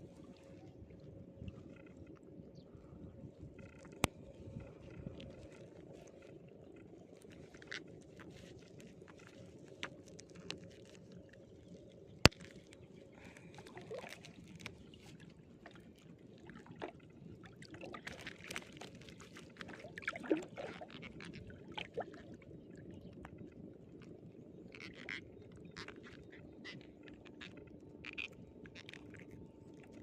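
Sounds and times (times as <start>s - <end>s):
water sloshing and splashing: 3.4s - 30.0s.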